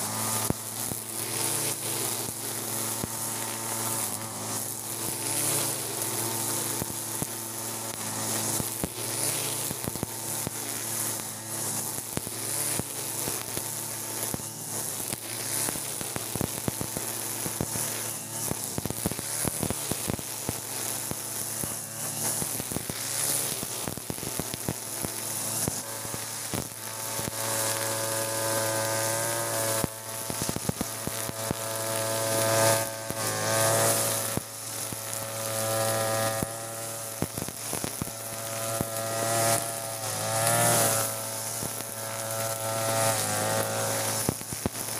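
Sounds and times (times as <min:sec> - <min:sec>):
brush cutter engine running: 0:00.0 - 0:44.9
trimmer line hissing through grass: 0:00.0 - 0:44.9.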